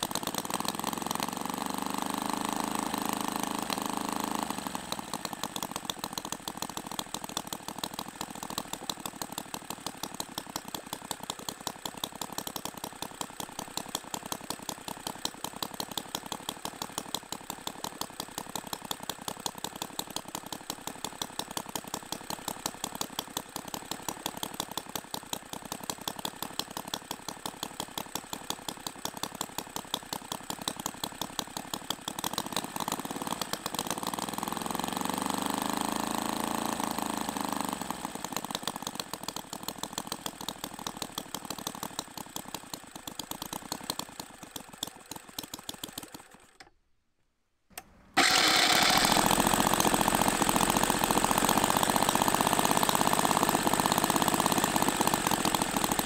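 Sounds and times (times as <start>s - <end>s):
model petrol engine running: 0.0s - 46.7s, 47.8s - 56.0s.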